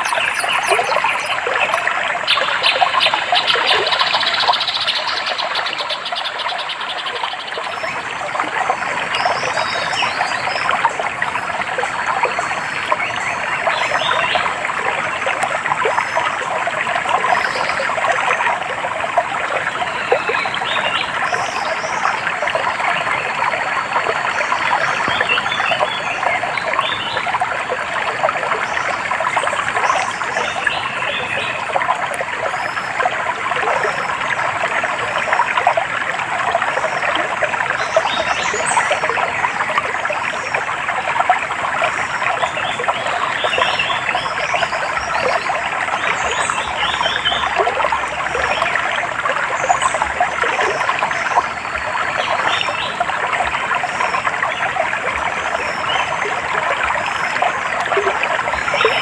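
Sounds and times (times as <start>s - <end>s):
stream trickling and babbling: 0.0s - 59.0s.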